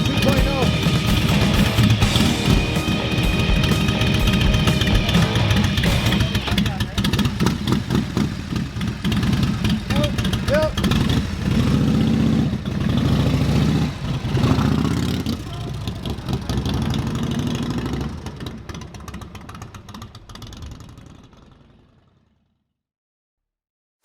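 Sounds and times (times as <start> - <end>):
motorcycle engine revving: 0.0 - 22.3.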